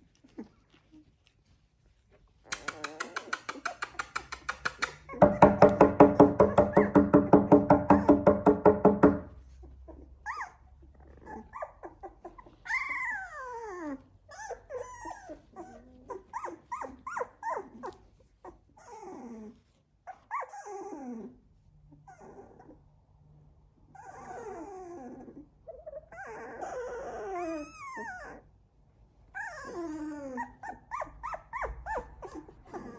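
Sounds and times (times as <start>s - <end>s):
puppy whining and whimpering: 0.0s - 8.4s, 9.4s - 22.9s, 23.8s - 28.6s, 29.2s - 32.9s.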